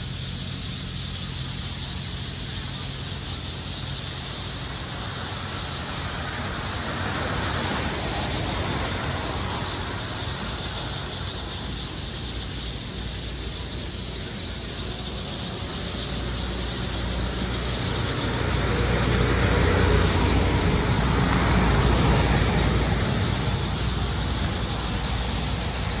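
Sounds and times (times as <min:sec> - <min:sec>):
passing vehicles hum: 0:00.0 - 0:26.0.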